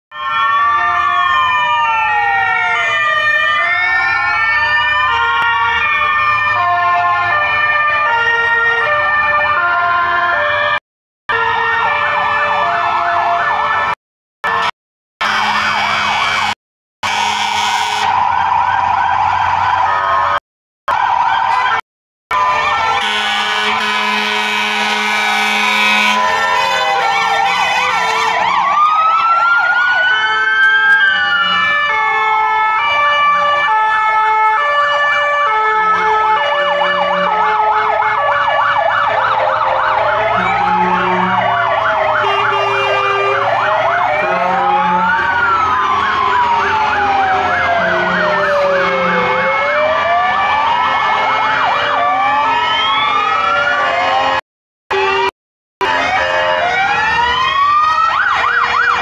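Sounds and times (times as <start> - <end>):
fire engine sirens: 0.1 - 59.0.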